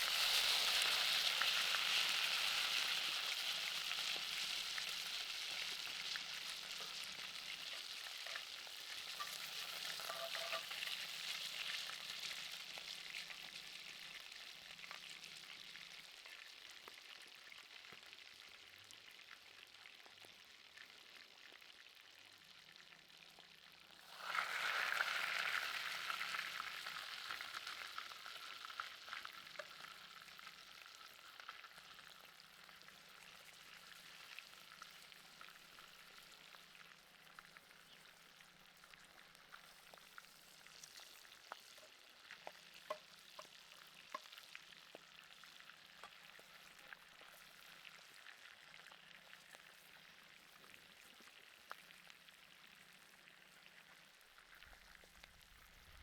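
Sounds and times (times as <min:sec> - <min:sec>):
food sizzling: 0:00.0 - 0:56.0.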